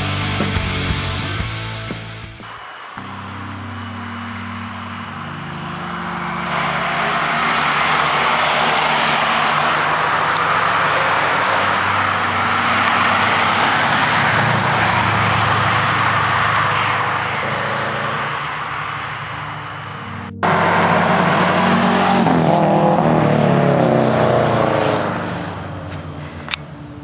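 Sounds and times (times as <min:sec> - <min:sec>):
cars driving past at speed: 0:02.4 - 0:26.9.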